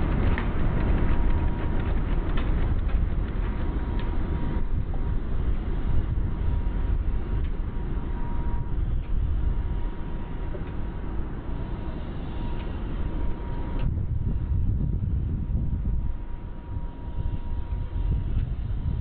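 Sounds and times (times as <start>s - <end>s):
low machinery rumble: 0.0s - 19.0s
thin steady whine: 0.0s - 19.0s.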